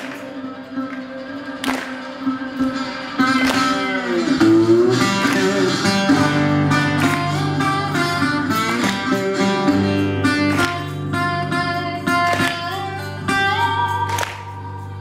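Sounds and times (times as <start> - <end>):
slide resonator guitar: 0.0 - 15.0
sustained low guitar notes: 0.0 - 15.0.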